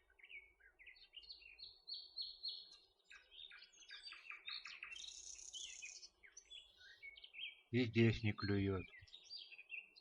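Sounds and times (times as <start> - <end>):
small songbird chirping: 0.0 - 10.0.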